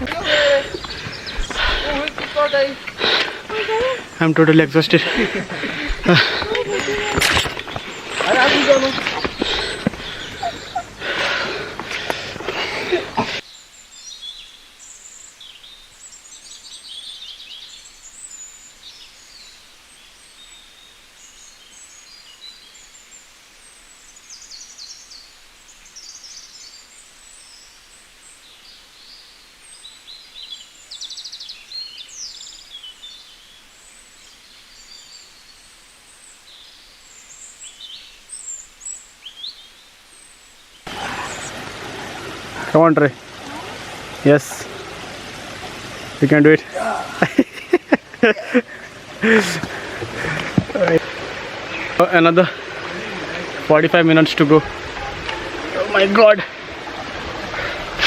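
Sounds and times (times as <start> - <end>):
birds chirping and trilling: 0.0 - 58.0
faint steady hiss: 0.0 - 58.0.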